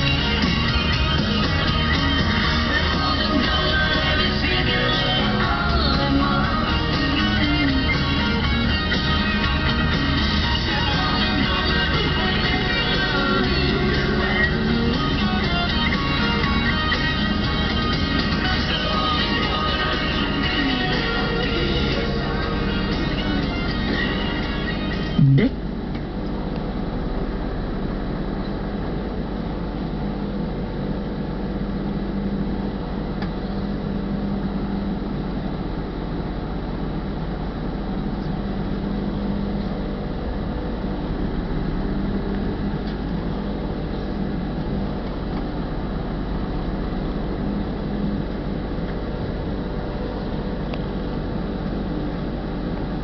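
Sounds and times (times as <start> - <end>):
diesel truck engine humming: 0.0 - 53.0.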